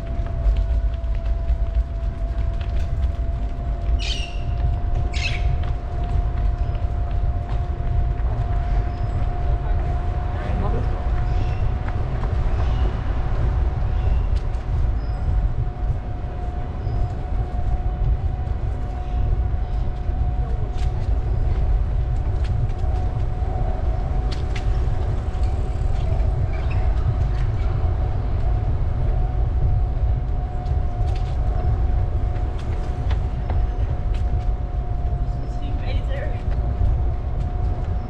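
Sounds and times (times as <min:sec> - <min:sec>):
wind and rolling noise on microphone: 0:00.0 - 0:38.0.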